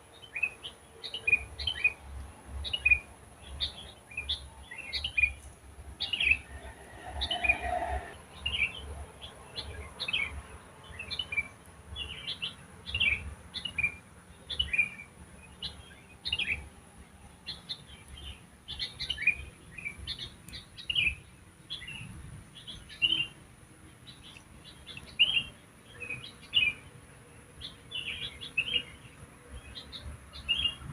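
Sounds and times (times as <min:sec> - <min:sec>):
songbirds chirping: 0:00.0 - 0:30.9.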